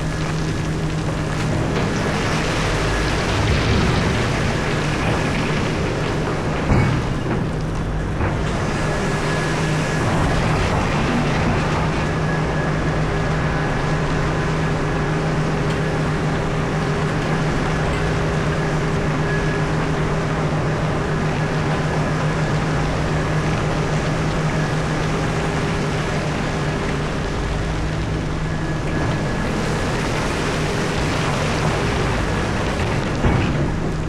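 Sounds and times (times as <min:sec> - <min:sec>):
excavator running with low hum: 0:00.0 - 0:34.0.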